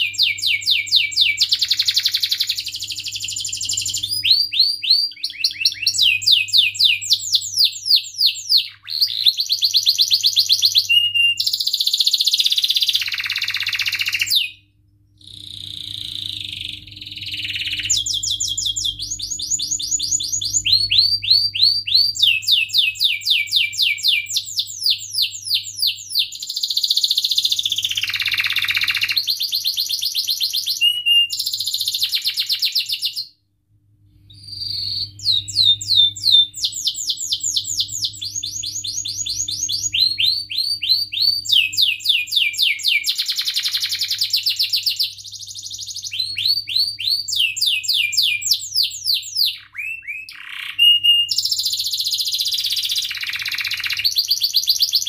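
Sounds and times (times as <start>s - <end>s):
canary singing: 0.0s - 33.3s, 34.3s - 55.0s.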